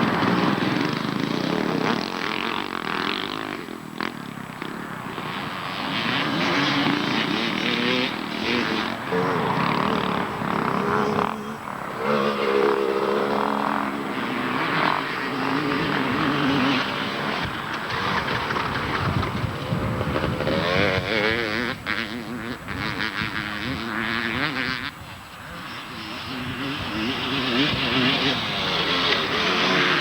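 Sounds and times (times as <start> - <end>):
motocross bikes revving: 0.0 - 30.0.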